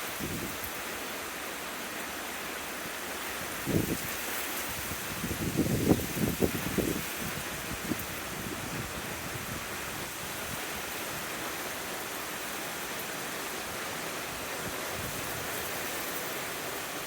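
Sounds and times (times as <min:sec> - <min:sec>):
heavy rain: 0:00.0 - 0:17.0
wind: 0:00.0 - 0:17.0.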